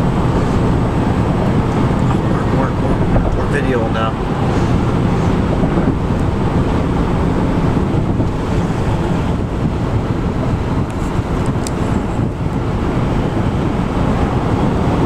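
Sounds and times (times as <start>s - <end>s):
road noise rumble: 0.0s - 15.0s
rush of air: 0.0s - 15.0s.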